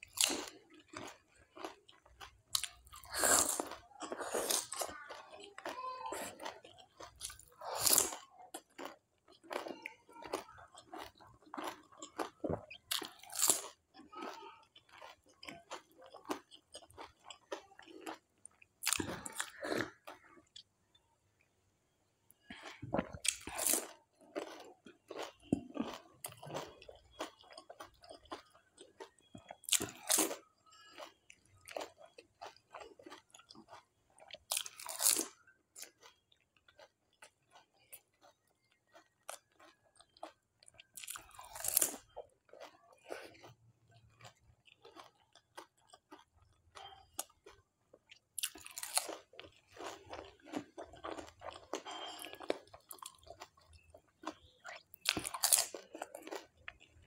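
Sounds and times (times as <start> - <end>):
wet chewing: 0.0 - 20.7, 22.4 - 57.0
crunching food shells: 0.0 - 20.9, 22.3 - 57.0.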